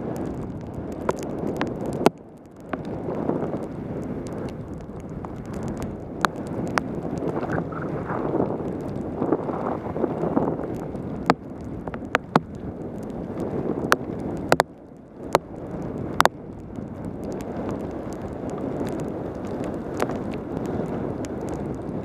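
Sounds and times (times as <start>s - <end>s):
wind rushing over camera: 0.0s - 22.0s.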